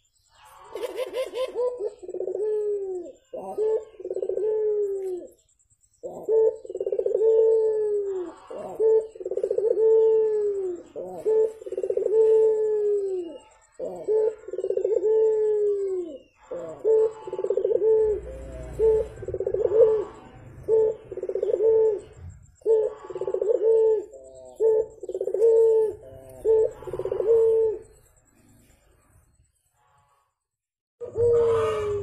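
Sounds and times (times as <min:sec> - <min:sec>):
dove cooing: 0:00.0 - 0:28.0, 0:31.0 - 0:32.0.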